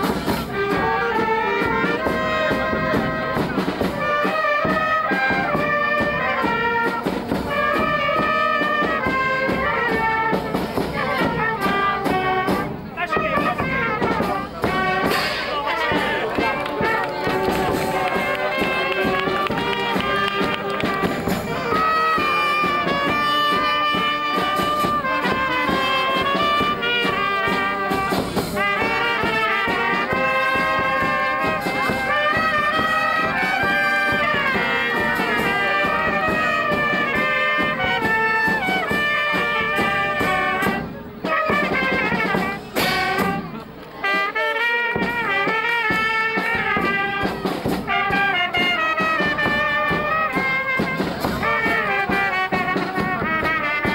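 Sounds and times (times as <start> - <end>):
brass band playing: 0.0 - 53.9.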